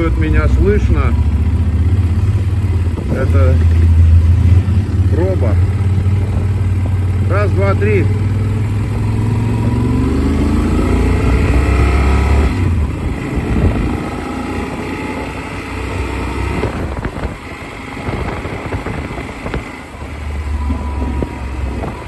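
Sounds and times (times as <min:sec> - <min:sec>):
motorcycle engine accelerating: 0:00.0 - 0:22.0
wind buffeting microphone: 0:00.0 - 0:22.0.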